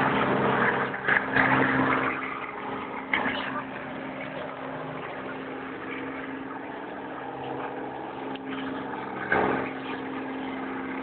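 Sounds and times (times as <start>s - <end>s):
helicopter rotor droning: 0.0s - 11.0s.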